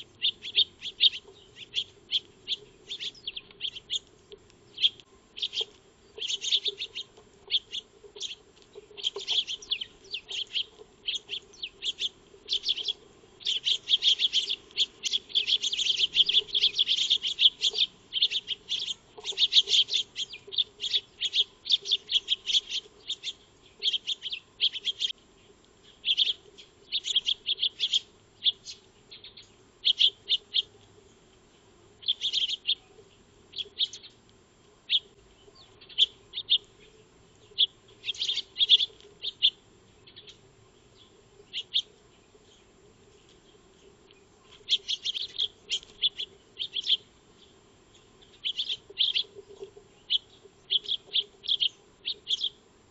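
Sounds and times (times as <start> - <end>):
sparrows chirping: 0.0 - 34.2, 34.8 - 52.9.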